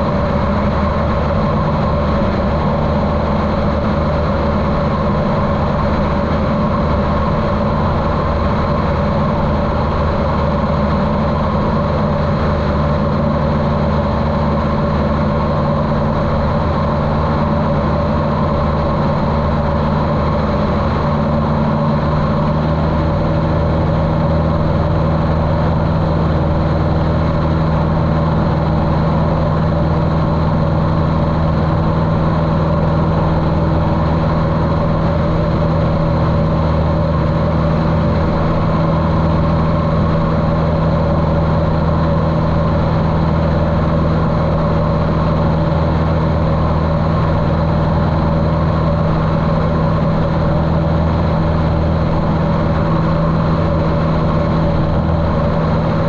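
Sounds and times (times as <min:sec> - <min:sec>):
muffled aircraft engine and propeller: 0:00.0 - 0:56.0.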